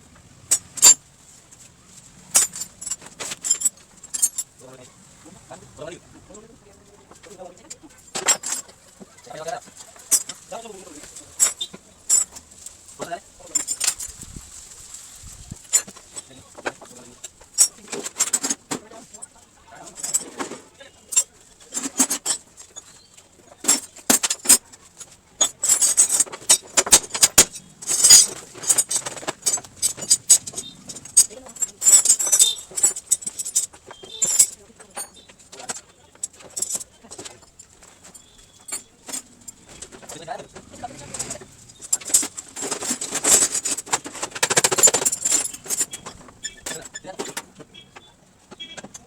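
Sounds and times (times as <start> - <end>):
metallic clinks and knocks: 0.4 - 4.8, 6.2 - 15.0, 15.6 - 49.0
small hard objects clattering: 0.5 - 49.0.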